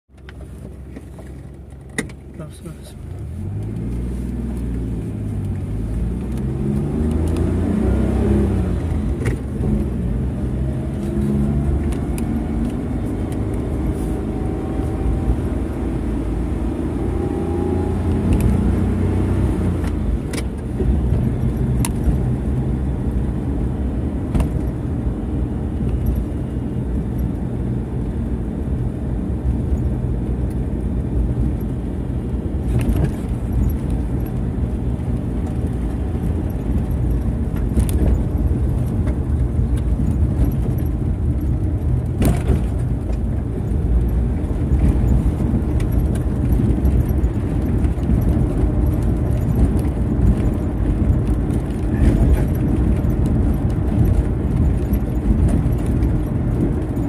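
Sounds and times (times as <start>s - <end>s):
vehicle engine accelerating: 0.5s - 57.0s.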